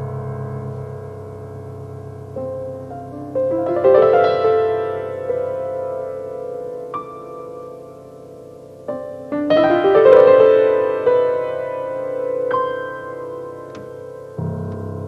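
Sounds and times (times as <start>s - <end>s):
solo grand piano: 0.0s - 15.0s.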